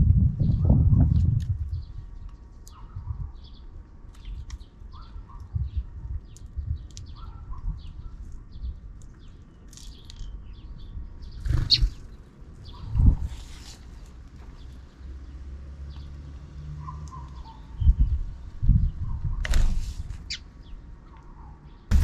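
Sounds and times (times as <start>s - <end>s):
sparrows chirping: 0.4s - 22.0s.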